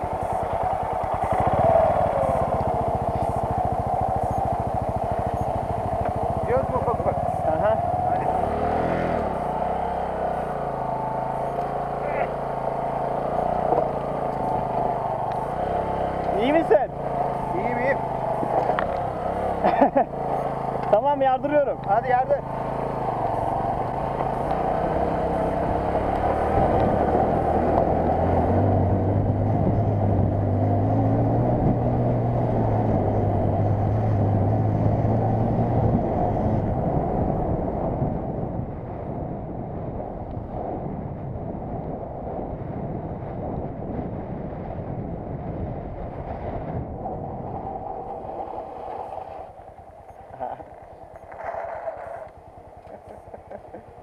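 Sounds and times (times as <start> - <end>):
motorcycle engine at full throttle: 0.0 - 54.0
rumble of riding over rough ground: 0.0 - 54.0.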